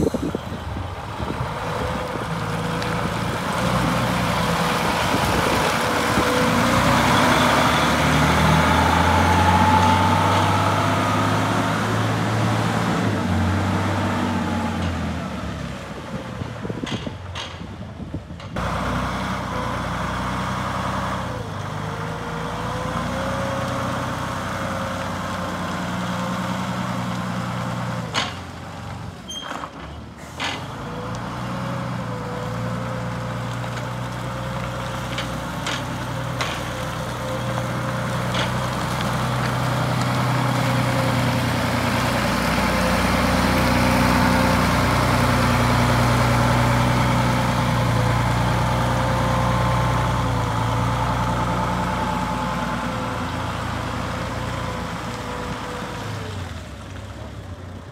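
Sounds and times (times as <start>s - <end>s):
forklift engine running: 0.0s - 57.9s.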